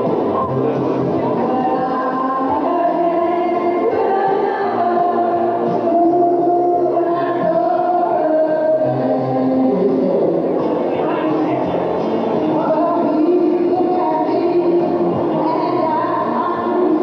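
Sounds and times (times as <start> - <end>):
group of voices singing: 0.0 - 11.2, 12.4 - 17.0
music: 0.0 - 17.0.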